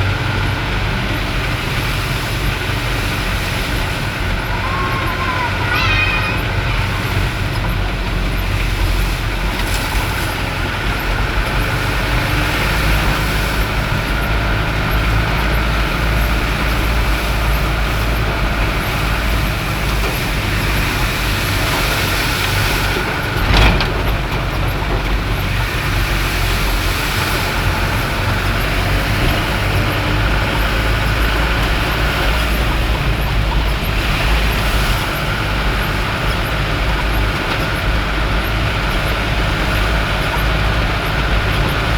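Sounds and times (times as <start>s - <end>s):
vehicle driving rumble: 0.0s - 41.9s.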